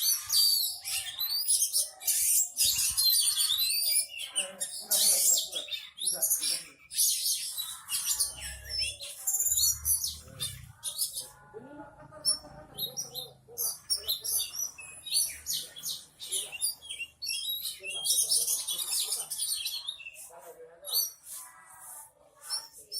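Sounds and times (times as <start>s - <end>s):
songbird singing: 0.0s - 20.3s.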